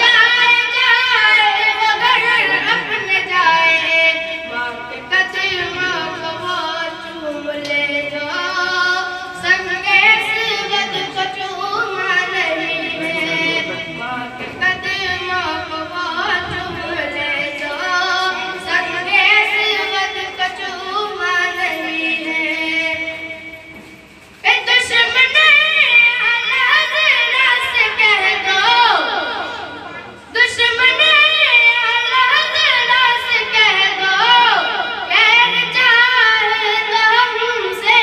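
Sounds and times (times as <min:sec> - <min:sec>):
boy singing unaccompanied: 0:00.0 - 0:23.6, 0:24.4 - 0:29.6, 0:30.3 - 0:38.0.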